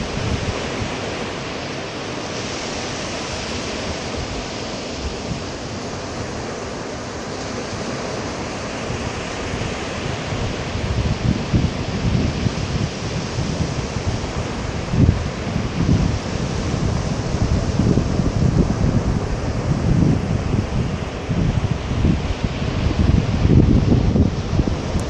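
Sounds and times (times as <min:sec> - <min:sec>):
sea waves washing onto shore: 0:00.0 - 0:25.0
wind buffeting microphone: 0:00.0 - 0:25.0.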